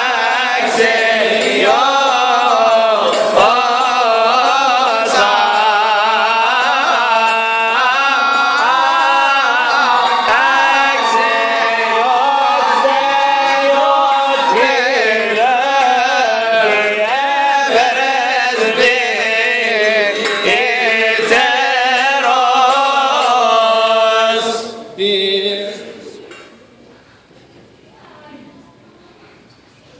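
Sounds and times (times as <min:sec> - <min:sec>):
liturgical chant: 0:00.0 - 0:26.6.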